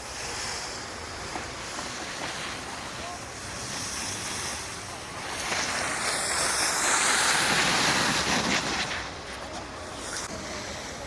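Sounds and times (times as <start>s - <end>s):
sliding over snow: 0.0s - 11.0s.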